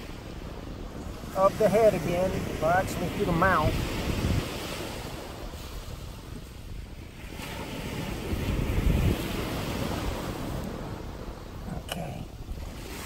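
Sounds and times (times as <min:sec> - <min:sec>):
ocean surf: 0:00.0 - 0:13.0
wind rumbling on microphone: 0:00.0 - 0:13.0.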